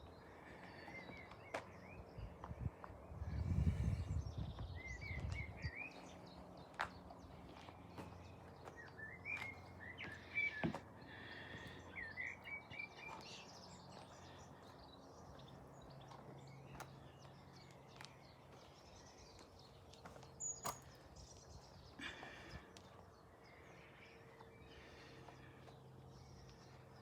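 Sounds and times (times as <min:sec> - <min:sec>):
birds chirping: 0:00.0 - 0:27.0
faint steady background hum: 0:00.0 - 0:27.0.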